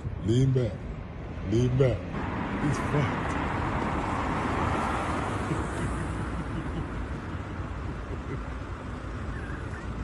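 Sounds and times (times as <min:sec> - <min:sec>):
street traffic rush: 0:00.0 - 0:10.0.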